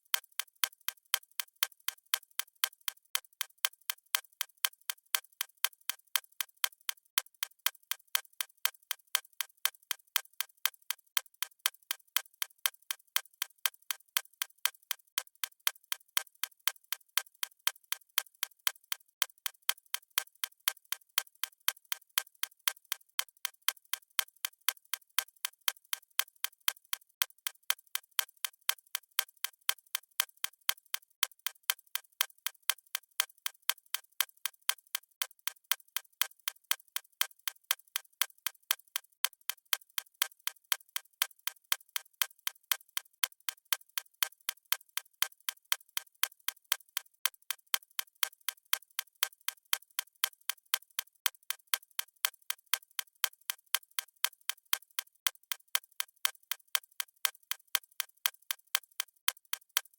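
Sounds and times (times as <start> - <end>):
digital timer ticking: 0.0 - 7.5, 17.8 - 59.9.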